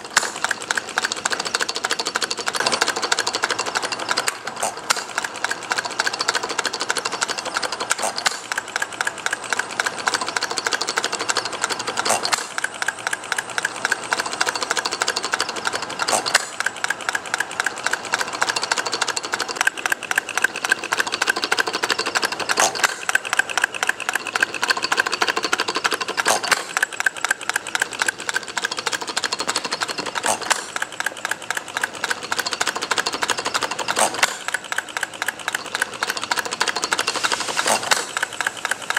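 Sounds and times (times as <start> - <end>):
small engine clattering: 0.0 - 38.9.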